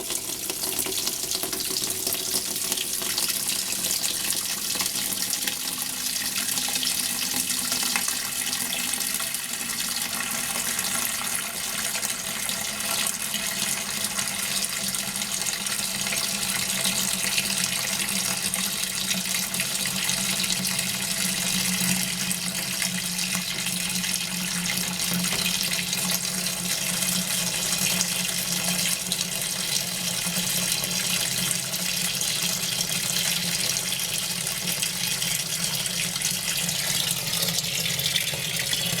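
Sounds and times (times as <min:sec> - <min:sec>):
water pouring into washing machine: 0:00.0 - 0:39.0.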